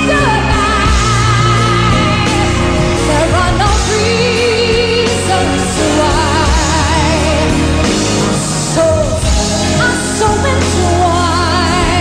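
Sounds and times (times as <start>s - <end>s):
band accompaniment: 0.0s - 12.0s
woman singing pop ballad: 0.0s - 12.0s.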